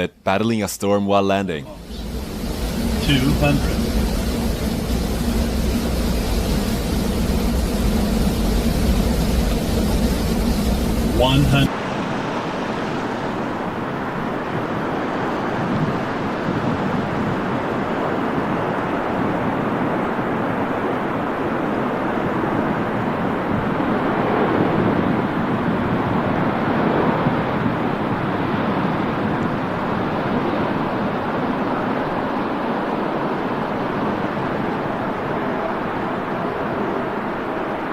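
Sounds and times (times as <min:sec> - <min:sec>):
rushing airflow and engines: 0:01.5 - 0:37.9.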